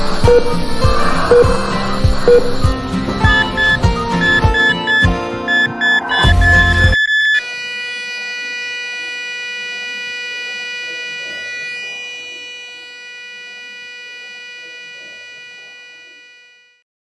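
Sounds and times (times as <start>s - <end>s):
steady electronic tone: 0.0s - 16.8s.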